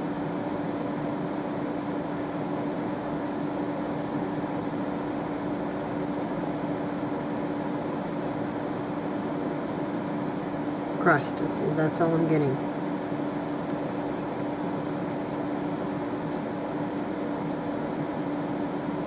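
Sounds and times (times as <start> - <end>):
mechanical hum with hiss: 0.0 - 19.0.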